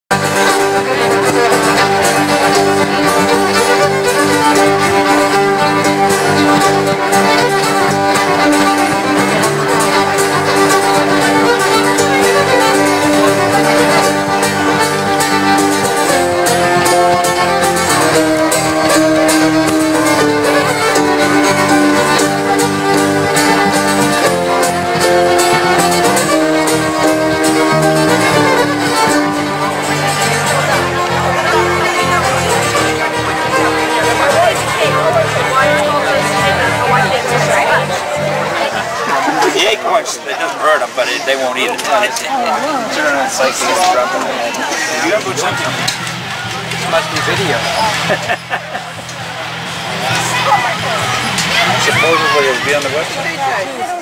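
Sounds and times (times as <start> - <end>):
instrumental melody of held notes: 0.1 - 42.4, 43.0 - 54.0.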